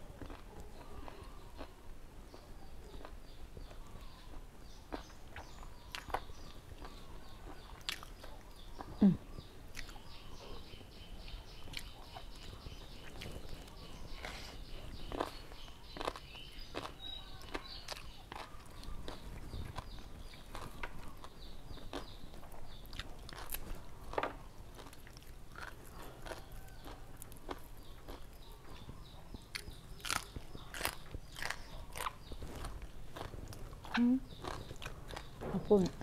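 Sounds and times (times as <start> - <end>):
crunchy chewing: 0.0 - 36.0.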